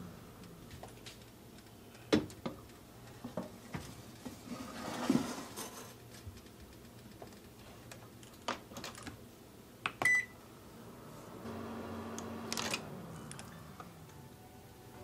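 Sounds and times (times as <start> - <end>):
oven humming: 0.0 - 15.0.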